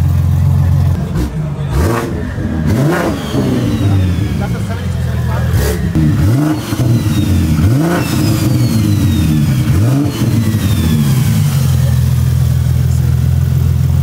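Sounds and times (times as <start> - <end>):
car engine idling: 0.0 - 14.0
car engine revving: 0.0 - 14.0.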